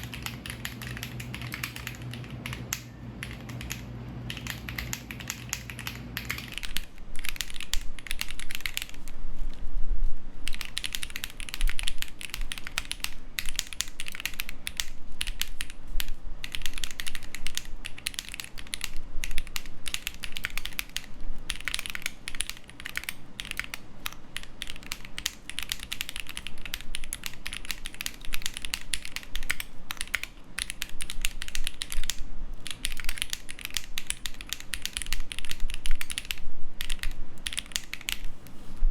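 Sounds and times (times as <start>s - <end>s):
mechanical keyboard typing: 0.0s - 9.2s, 10.4s - 38.3s.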